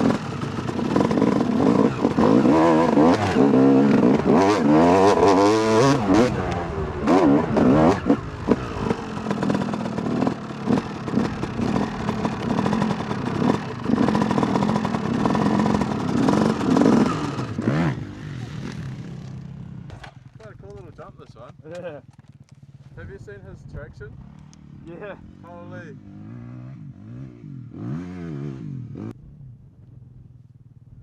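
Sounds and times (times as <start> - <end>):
dirt bike engine revving: 0.0 - 20.4, 24.1 - 29.1.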